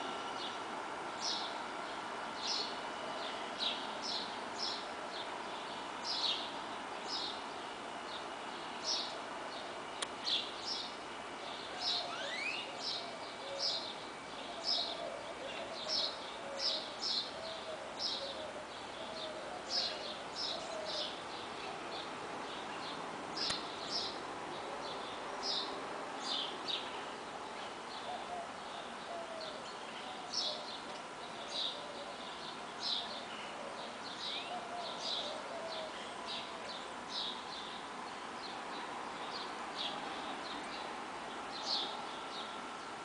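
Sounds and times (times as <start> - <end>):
distant road traffic: 0.0 - 43.0
small birds chirping: 0.0 - 43.0.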